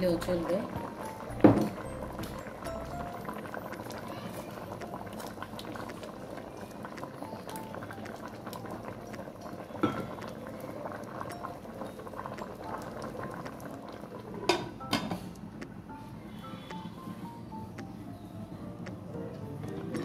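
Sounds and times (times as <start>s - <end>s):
lentils bubbling in pot: 0.0s - 20.0s.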